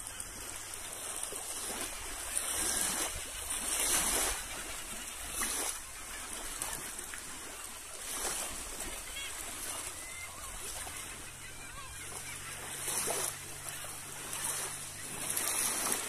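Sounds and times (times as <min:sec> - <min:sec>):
small waves lapping on rocks: 0:00.0 - 0:16.0.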